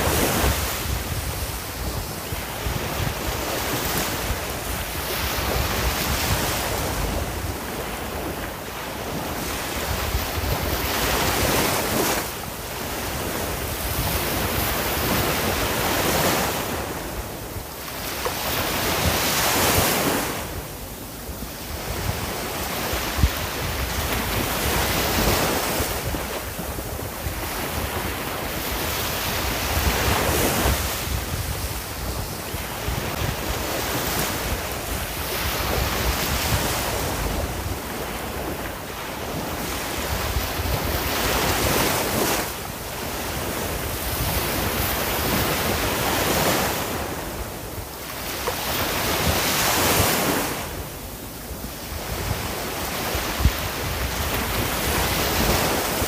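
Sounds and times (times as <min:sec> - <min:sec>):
sea waves breaking on shore: 0:00.0 - 0:56.0
wind noise on microphone: 0:00.0 - 0:56.0.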